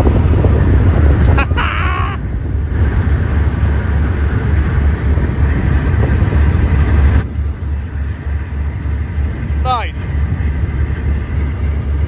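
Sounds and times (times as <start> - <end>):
boat engines droning: 0.0 - 12.0
rushing wake: 0.0 - 12.0
wind: 0.0 - 12.0.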